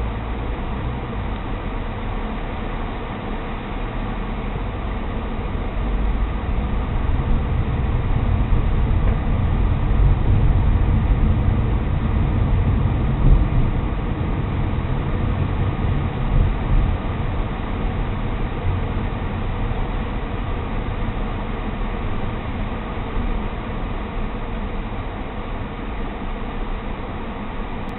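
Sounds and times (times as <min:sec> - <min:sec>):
car driving rumble: 0:00.0 - 0:27.9.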